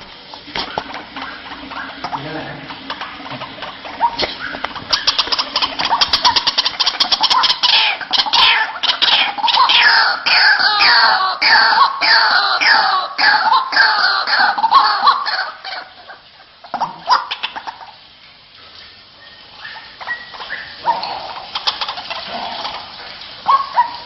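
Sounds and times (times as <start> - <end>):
waterhen calling: 0.0 - 24.0.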